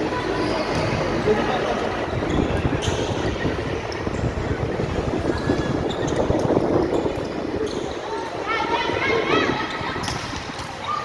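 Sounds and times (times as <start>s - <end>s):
rumbling gym hall noise: 0.0s - 11.0s.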